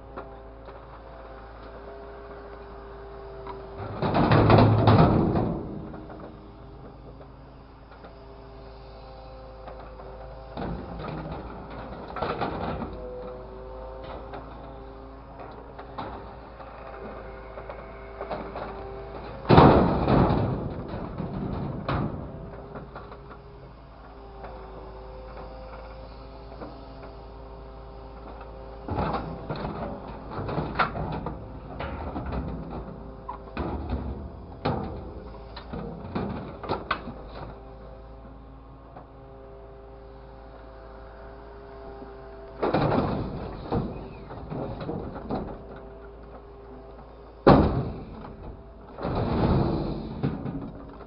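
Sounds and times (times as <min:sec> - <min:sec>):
mechanical hum: 0:00.0 - 0:51.0
small knocks: 0:09.4 - 0:51.0.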